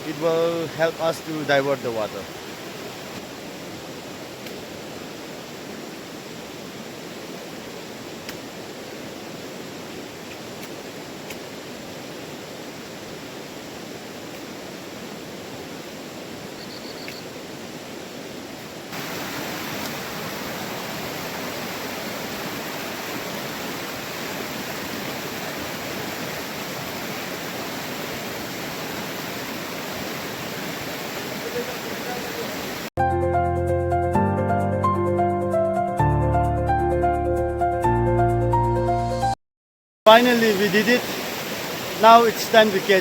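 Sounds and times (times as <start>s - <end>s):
river rushing: 0.0s - 16.6s, 17.2s - 32.9s, 40.1s - 43.0s.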